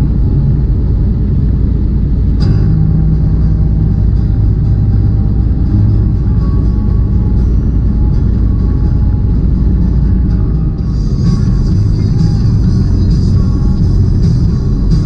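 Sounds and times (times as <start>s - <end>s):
truck engine and tyre rumble: 0.0s - 15.0s.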